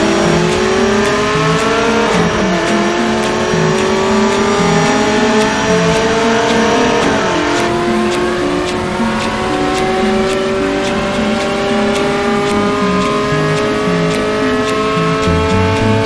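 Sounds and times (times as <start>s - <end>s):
car engines droning: 0.0s - 16.0s
regular ticking: 0.0s - 16.0s
stepping low pulse: 0.0s - 16.0s.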